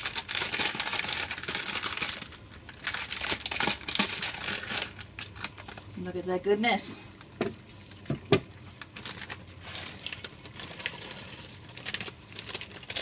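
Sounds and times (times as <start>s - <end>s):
plastic packet crinkling: 0.0s - 6.1s, 7.2s - 13.0s.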